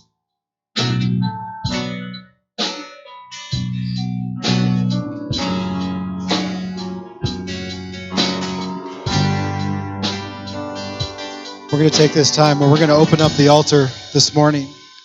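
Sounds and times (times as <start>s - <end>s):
held bass notes: 0.8s - 2.2s, 3.6s - 14.8s
guitar chords strummed: 0.8s - 15.0s.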